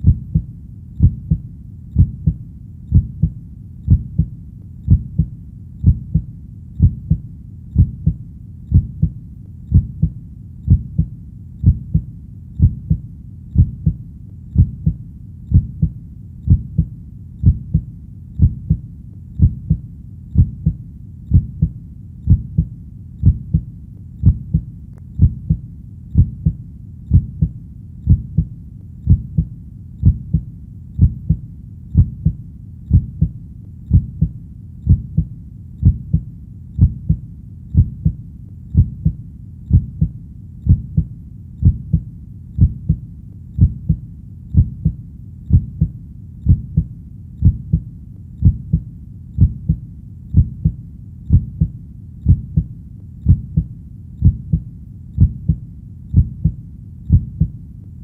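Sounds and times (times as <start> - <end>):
heartbeat: 0.0 - 58.0.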